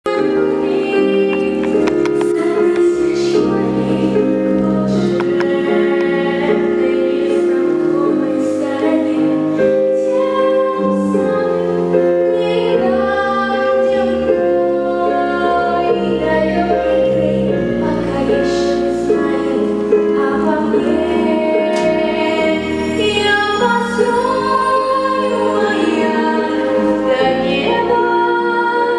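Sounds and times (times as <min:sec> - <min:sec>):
woman singing with music: 0:00.1 - 0:28.9.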